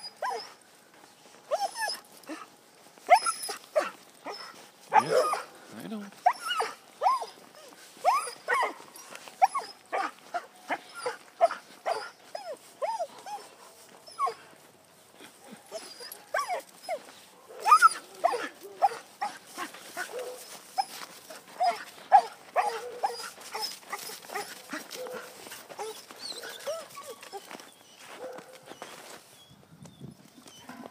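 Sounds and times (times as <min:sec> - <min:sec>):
dog whining and yelping: 0:00.0 - 0:00.6, 0:01.5 - 0:02.4, 0:03.1 - 0:05.5, 0:06.2 - 0:13.5, 0:14.1 - 0:14.4, 0:15.7 - 0:29.5.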